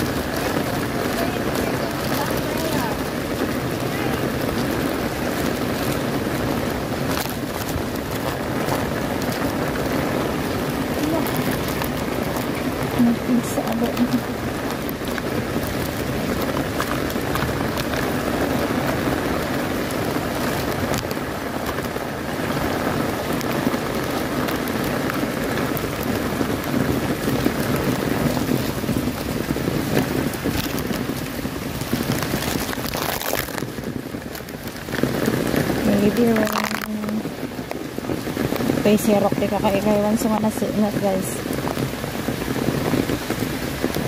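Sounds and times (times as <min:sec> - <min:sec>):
heavy rain on umbrella: 0:00.0 - 0:44.0.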